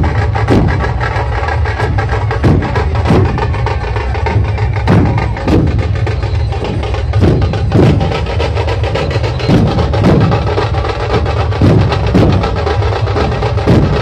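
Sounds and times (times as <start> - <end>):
barrel drums booming: 0.0 - 14.0.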